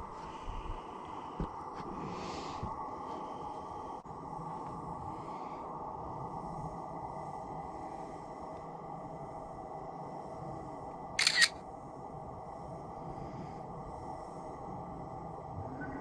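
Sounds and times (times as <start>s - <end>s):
faint outdoor rush: 0.0s - 16.0s.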